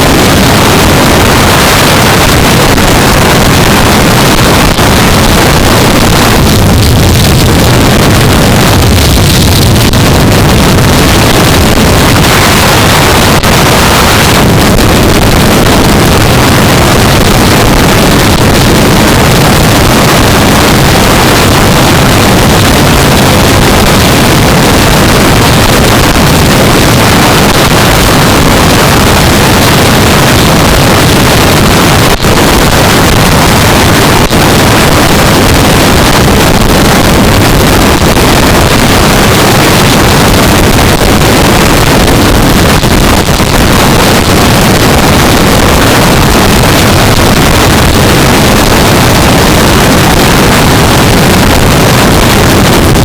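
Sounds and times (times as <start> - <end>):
wind rush on microphone: 0.0 - 53.0.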